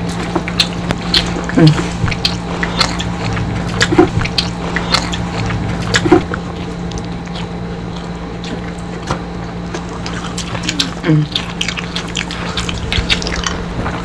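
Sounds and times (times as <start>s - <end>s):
fried fish crunching: 0.0s - 14.0s
low steady hum: 0.0s - 14.0s.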